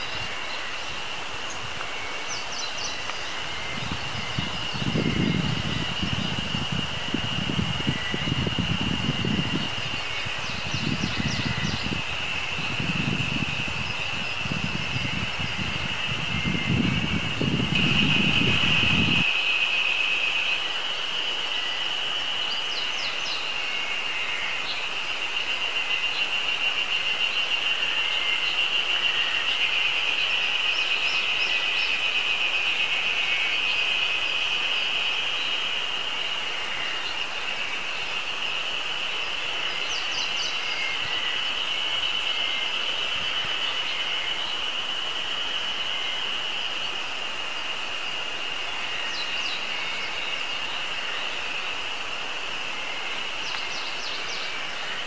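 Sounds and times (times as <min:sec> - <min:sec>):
cicadas buzzing: 0:00.0 - 0:55.0
songbird calling: 0:00.0 - 0:55.0.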